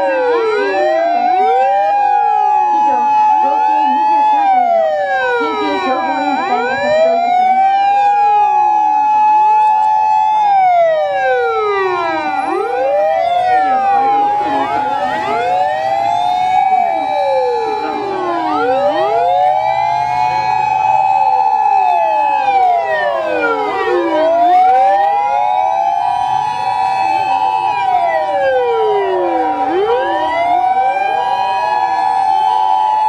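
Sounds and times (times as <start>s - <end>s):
fire engine sirens wailing: 0.0s - 33.0s.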